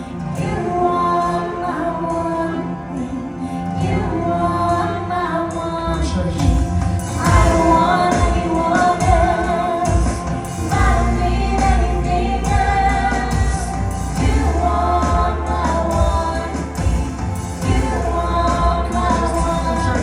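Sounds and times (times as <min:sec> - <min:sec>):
live worship band playing: 0:00.0 - 0:20.0
singers holding long notes: 0:00.0 - 0:20.0
steady bass: 0:03.6 - 0:20.0.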